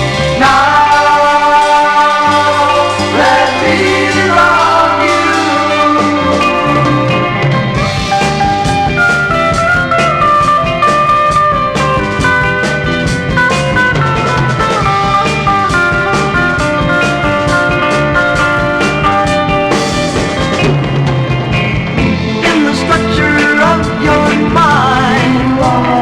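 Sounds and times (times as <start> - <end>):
drum kit beat: 0.0 - 26.0
melodic lead line: 0.0 - 26.0.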